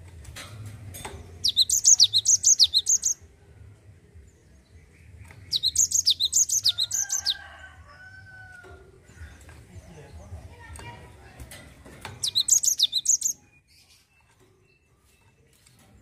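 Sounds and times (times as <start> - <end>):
bird singing rolling song: 1.0 - 16.0.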